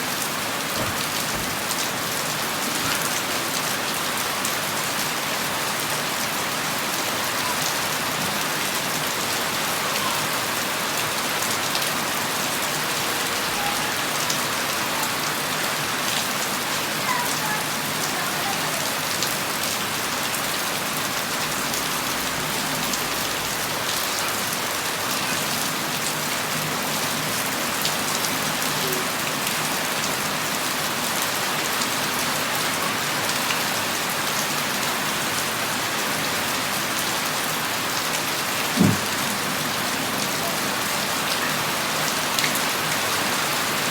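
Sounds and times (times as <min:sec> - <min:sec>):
rain pattering: 0:00.0 - 0:43.9.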